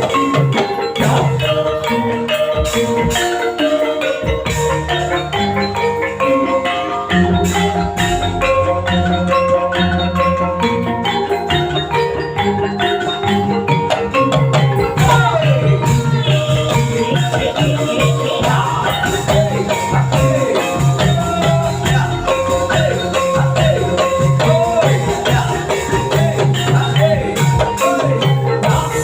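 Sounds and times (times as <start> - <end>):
metallophones and drums: 0.0 - 29.0
wavering gliding melody: 0.0 - 29.0.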